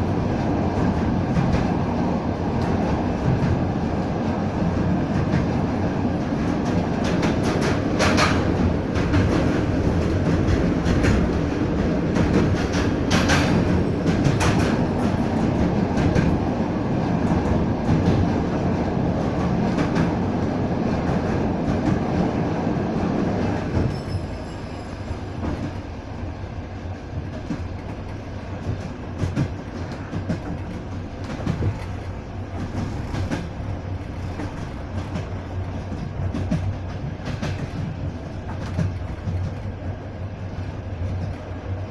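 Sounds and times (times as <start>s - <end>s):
train carriage rumble: 0.0s - 41.9s
wheels clicking over rail joints: 0.0s - 41.9s.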